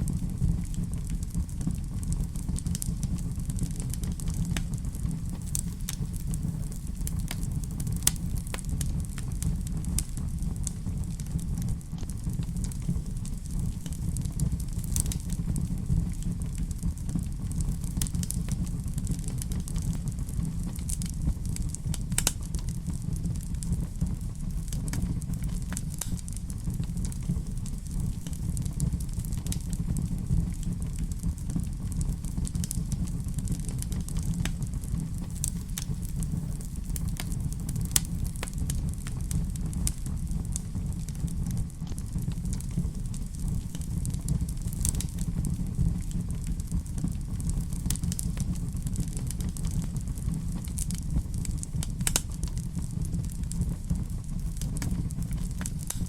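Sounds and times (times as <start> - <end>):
fire popping and snapping: 0.0 - 56.0
low rumble of flames: 0.0 - 56.0.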